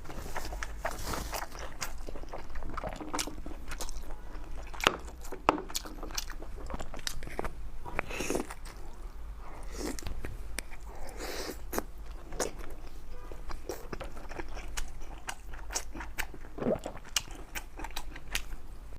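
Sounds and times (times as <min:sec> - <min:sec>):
person chewing: 0:00.0 - 0:18.6.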